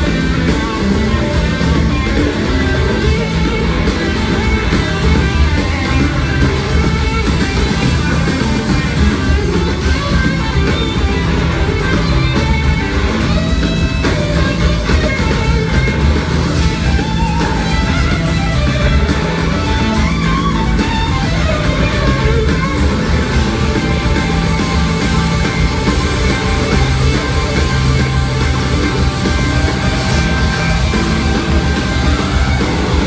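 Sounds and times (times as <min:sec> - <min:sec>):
electric slide guitar soloing: 0:00.0 - 0:33.0
rock band playing loudly: 0:00.0 - 0:33.0.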